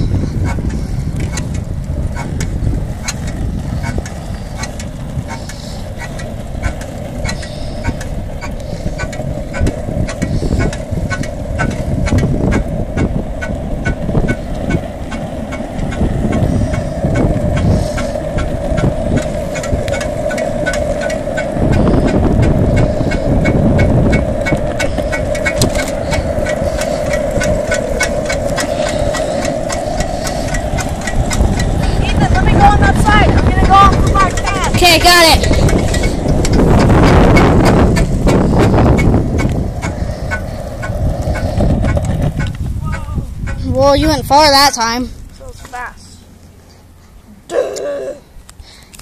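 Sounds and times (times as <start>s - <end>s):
skateboard wheels rolling on asphalt: 0.0s - 47.5s, 48.2s - 49.0s.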